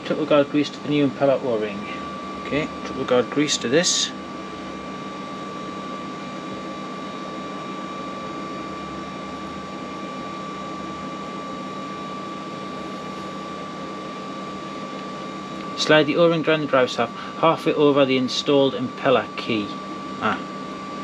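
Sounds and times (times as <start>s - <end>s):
high whine: 0.0s - 21.0s
mechanical hum: 0.0s - 21.0s.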